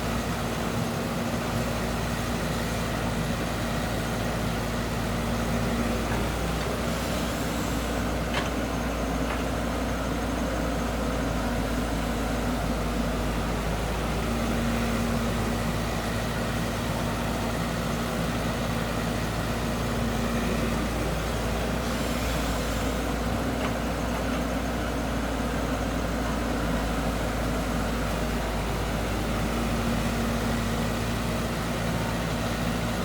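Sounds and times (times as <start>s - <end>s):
heavy machine engine running: 0.0s - 33.0s.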